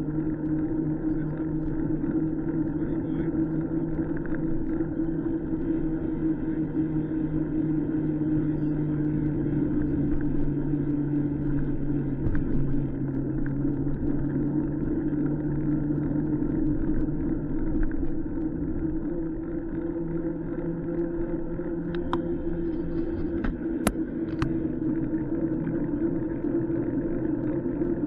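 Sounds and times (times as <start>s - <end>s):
motor humming: 0.0s - 28.0s.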